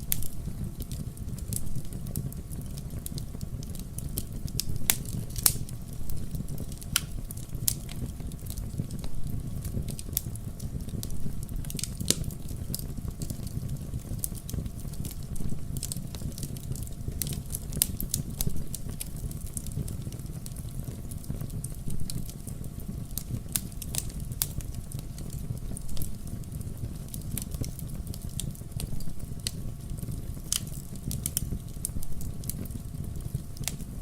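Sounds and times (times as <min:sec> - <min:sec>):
fire crackling and popping: 0:00.0 - 0:34.0
wood fire burning: 0:00.0 - 0:34.0.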